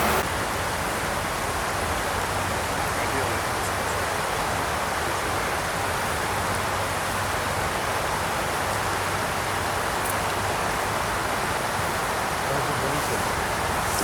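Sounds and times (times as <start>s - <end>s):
rushing water hiss: 0.0s - 14.0s.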